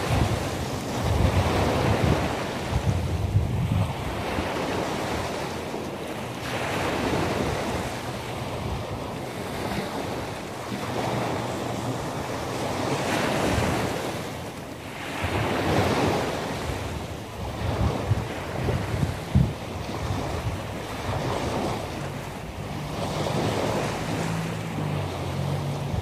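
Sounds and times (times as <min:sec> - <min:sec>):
sea waves breaking on shore: 0:00.0 - 0:26.0.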